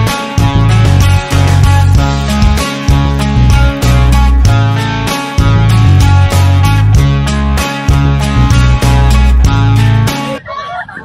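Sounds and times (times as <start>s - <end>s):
guitar-led song with beat: 0.0s - 10.4s.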